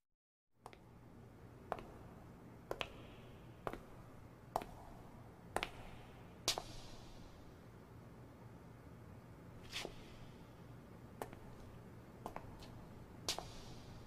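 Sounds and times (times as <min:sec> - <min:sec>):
low steady hum: 0:00.6 - 0:14.0.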